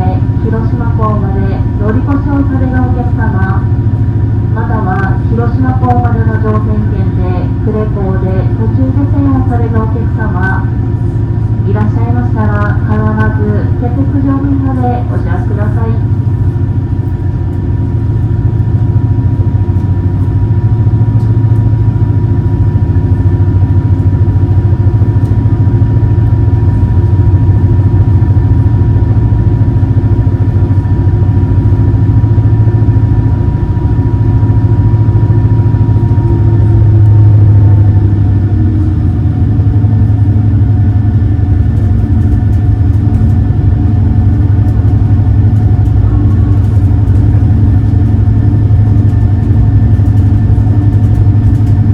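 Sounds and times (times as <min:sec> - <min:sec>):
boat engines humming: 0:00.0 - 0:51.9
engine whine: 0:00.0 - 0:51.9.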